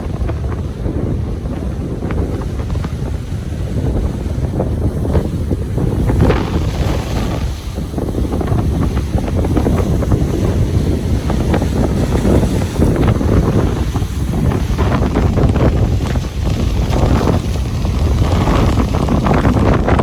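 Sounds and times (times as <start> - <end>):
ocean surf washing onto beach: 0.0 - 20.0
wind buffeting microphone: 0.0 - 20.0.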